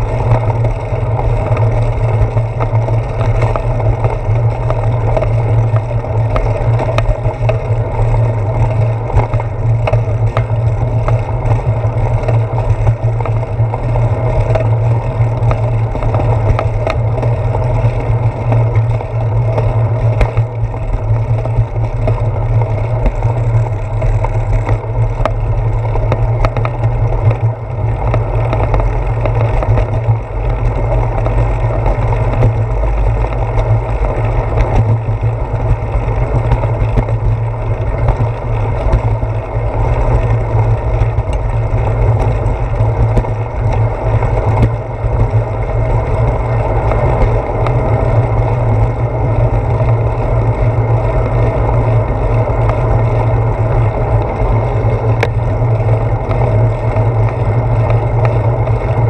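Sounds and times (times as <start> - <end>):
small clicks and rattles: 0.0 - 59.0
wind and road rumble: 0.0 - 59.0.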